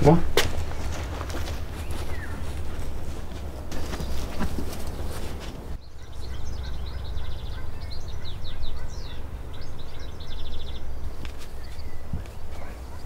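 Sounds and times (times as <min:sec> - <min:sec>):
songbird singing chirps and trills: 0:00.6 - 0:13.0.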